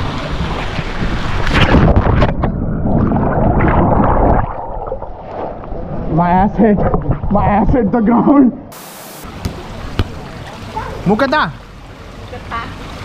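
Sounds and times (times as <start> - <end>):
muffled water churning and gurgling: 0.0 - 8.0, 9.2 - 13.0.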